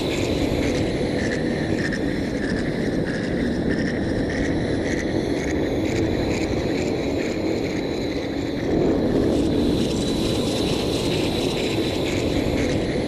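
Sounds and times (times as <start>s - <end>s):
deep rumbling wind hum: 0.0s - 13.0s.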